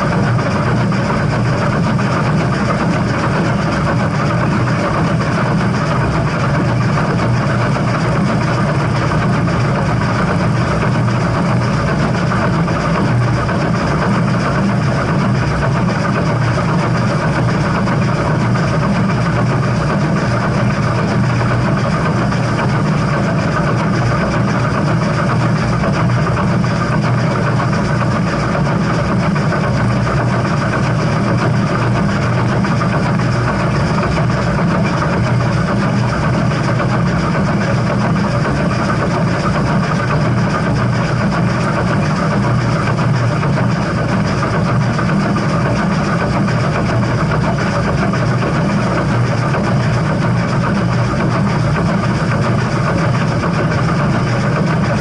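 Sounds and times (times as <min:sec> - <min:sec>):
train running: 0:00.0 - 0:55.0.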